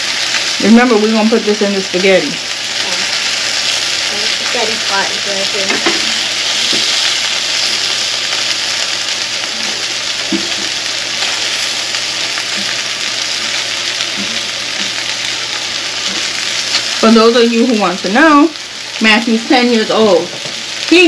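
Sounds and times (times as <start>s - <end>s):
sausage sizzling in a pan: 0.0s - 21.0s.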